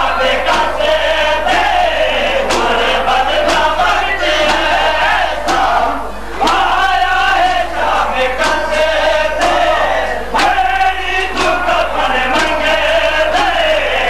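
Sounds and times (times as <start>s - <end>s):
chest-beating blows: 0.0s - 14.0s
crowd of men chanting lament: 0.0s - 14.0s.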